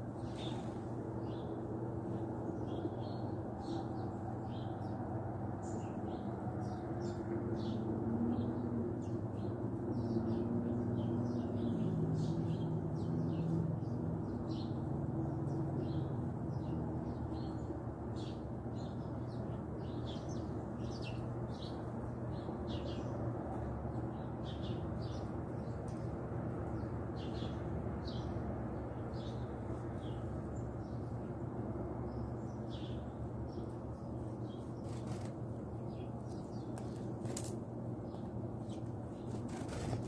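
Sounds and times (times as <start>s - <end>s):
small birds chirping: 0.1s - 40.0s.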